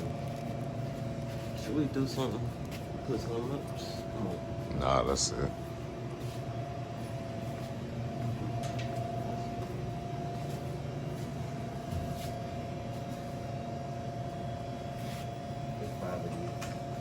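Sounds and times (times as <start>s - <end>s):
low mechanical hum: 0.0s - 17.0s
thin steady whine: 0.0s - 17.0s.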